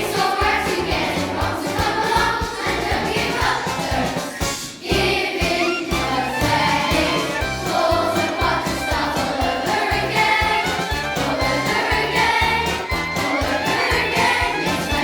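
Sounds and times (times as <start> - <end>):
backing music with steady beat: 0.0 - 15.0
group of voices singing: 0.0 - 15.0.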